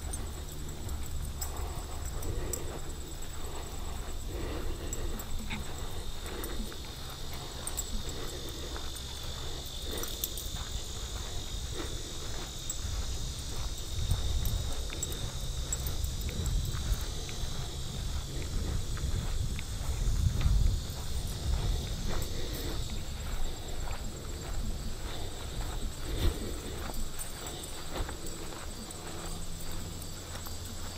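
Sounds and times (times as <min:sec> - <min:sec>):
footsteps on dirt trail: 0:00.0 - 0:30.9
high-pitched insect trill: 0:00.0 - 0:30.9.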